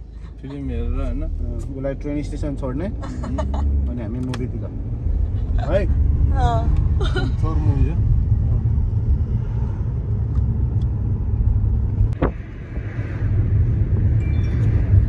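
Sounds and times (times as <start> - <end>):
car rumbling while moving: 0.0 - 15.0.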